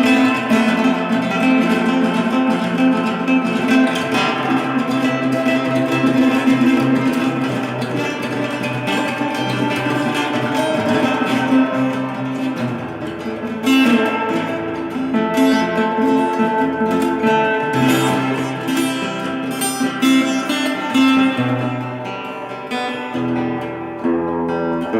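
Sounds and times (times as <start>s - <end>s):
acoustic guitar playing: 0.0s - 24.9s.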